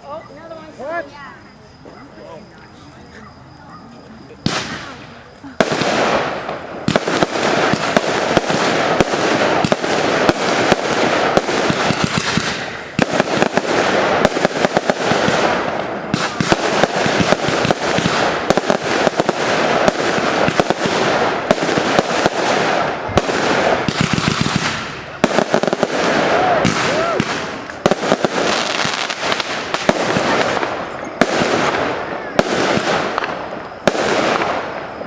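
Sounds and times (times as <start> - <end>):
fireworks bangs: 4.0 - 35.0
fireworks crackling: 4.0 - 35.0.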